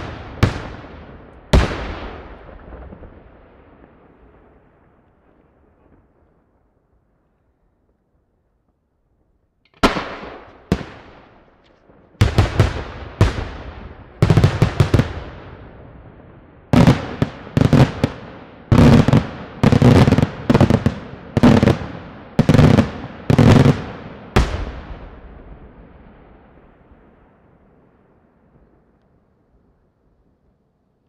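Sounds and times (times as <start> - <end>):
fireworks bangs with echo: 0.0 - 6.5, 9.7 - 28.9.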